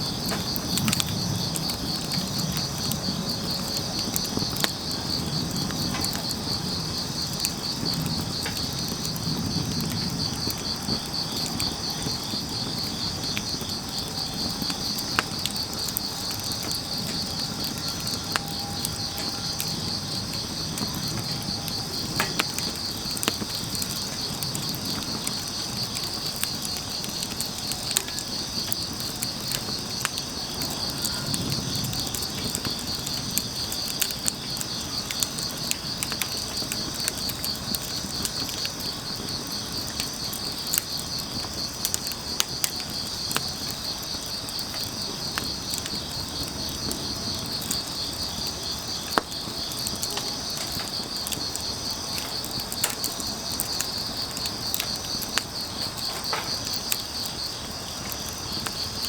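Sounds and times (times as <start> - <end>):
crickets chirping: 0.0 - 59.0
wood fire crackling and popping: 0.0 - 59.0.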